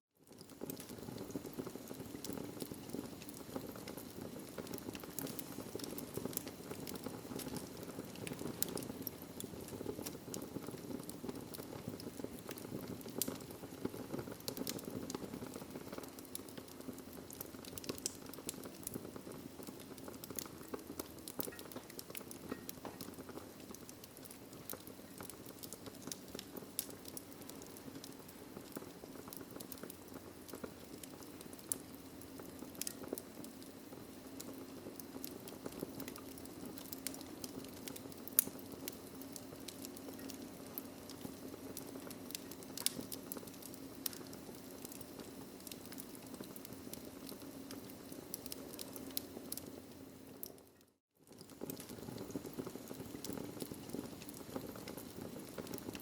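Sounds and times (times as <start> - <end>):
fire crackling and popping: 0.2 - 56.0.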